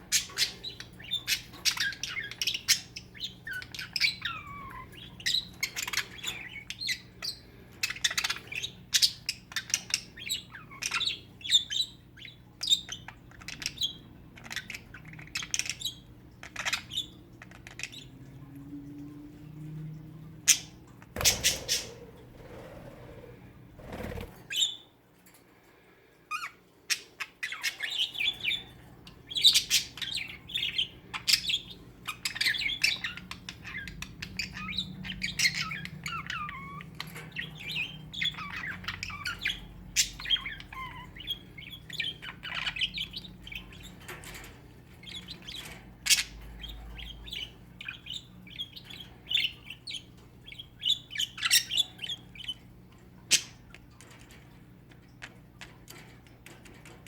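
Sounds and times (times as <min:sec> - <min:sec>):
budgies chattering and squawking: 0:00.0 - 0:18.3, 0:20.4 - 0:24.8, 0:26.3 - 0:54.2.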